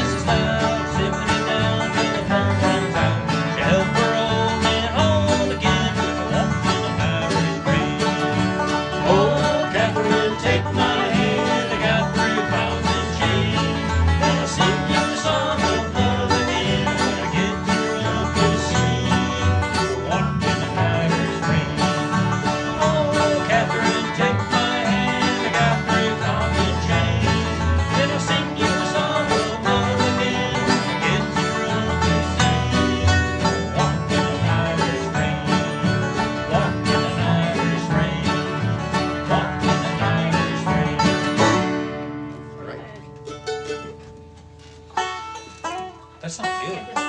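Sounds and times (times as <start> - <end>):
bass line: 0.0 - 44.0
bluegrass string band music: 0.0 - 47.0
guitar: 0.0 - 47.0
plucked banjo: 0.0 - 47.0.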